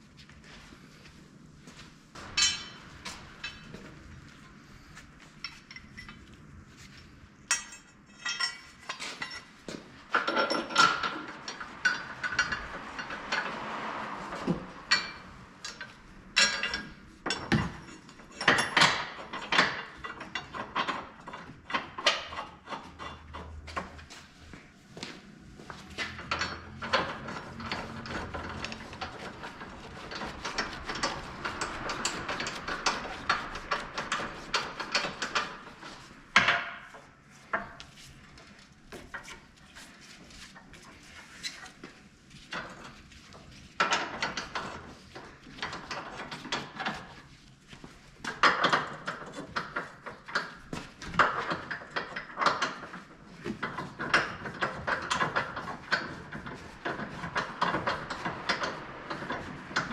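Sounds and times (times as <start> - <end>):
hand tools clicking and scraping: 4.6 - 59.9.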